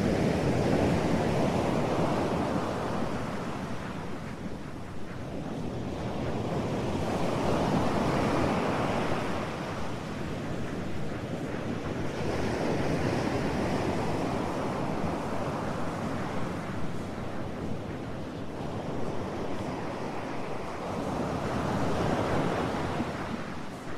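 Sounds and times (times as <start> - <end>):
ocean waves washing: 0.0 - 23.9.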